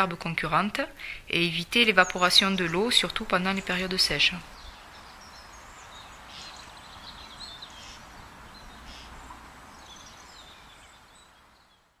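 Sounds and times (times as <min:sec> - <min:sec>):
steady background hiss: 0:00.0 - 0:12.0
small birds chirping: 0:01.0 - 0:12.0.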